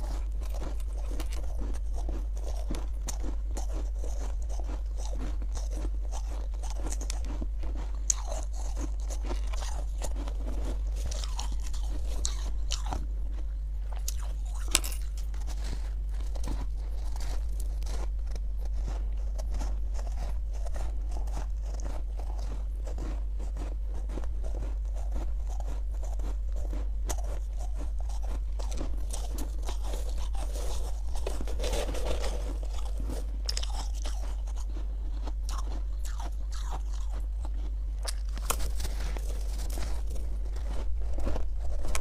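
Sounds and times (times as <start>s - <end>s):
frost being bitten and chewed: 0.0s - 42.0s
steady low hum: 0.0s - 42.0s.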